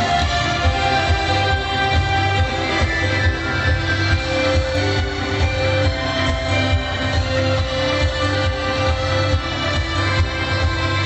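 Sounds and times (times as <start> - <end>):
steady bass beat: 0.0 - 11.0.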